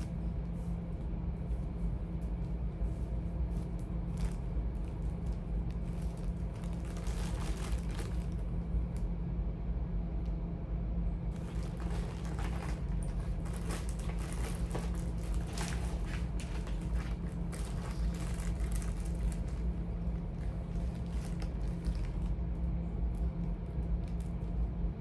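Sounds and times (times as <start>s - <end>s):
cables rustling and clicking: 0.0s - 9.1s, 11.3s - 24.7s
steady low hum: 0.0s - 25.0s.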